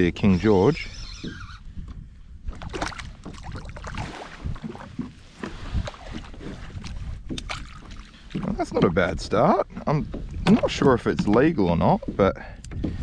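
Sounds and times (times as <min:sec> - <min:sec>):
faint water sounds: 0:00.0 - 0:13.0
knocks and bumps on a kayak: 0:01.3 - 0:13.0.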